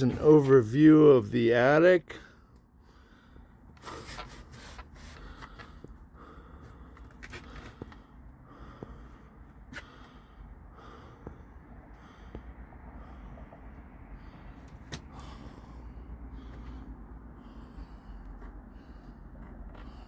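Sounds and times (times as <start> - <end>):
person breathing heavily: 2.1 - 20.0.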